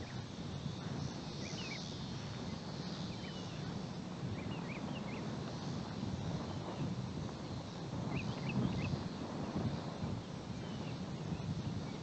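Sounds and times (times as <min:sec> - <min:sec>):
small birds chirping: 0:00.0 - 0:12.0
wind rumbling on microphone: 0:00.0 - 0:12.0.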